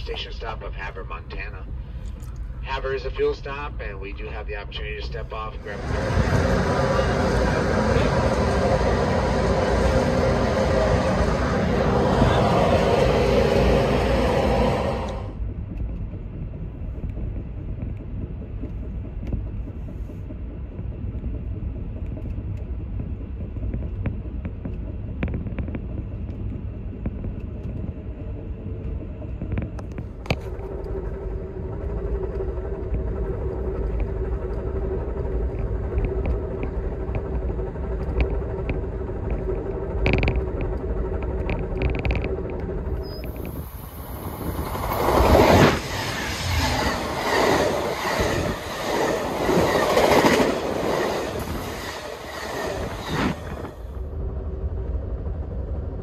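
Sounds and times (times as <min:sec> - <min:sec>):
approaching train rushing: 0:00.0 - 0:21.8, 0:27.6 - 0:56.0
steady hum: 0:00.0 - 0:56.0
train car rumbling on rails: 0:00.0 - 0:56.0.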